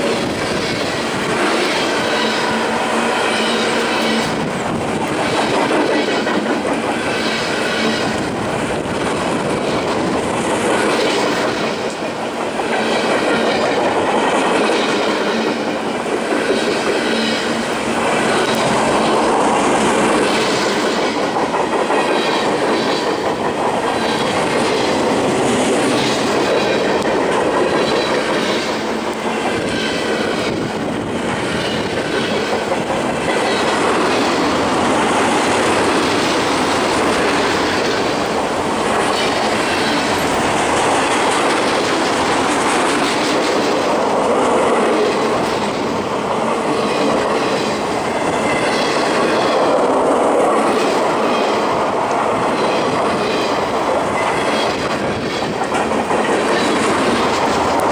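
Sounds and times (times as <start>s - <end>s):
freight train wheels clattering on rails: 0.0s - 57.9s.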